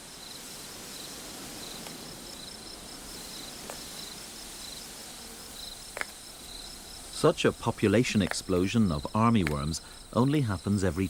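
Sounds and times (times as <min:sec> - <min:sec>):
background hiss: 0:00.0 - 0:11.0
insects chirping: 0:00.0 - 0:11.0.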